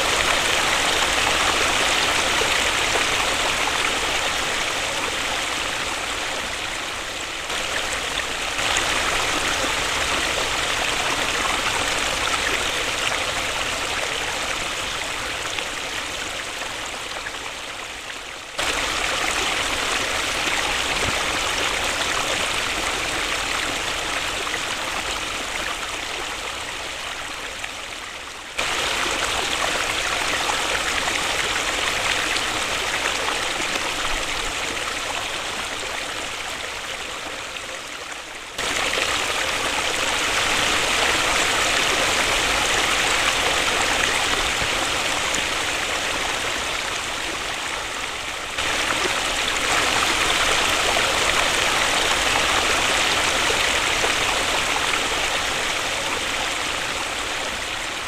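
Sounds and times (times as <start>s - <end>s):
waterfall rushing: 0.0s - 17.7s, 18.6s - 27.2s, 28.6s - 36.8s, 38.5s - 58.0s.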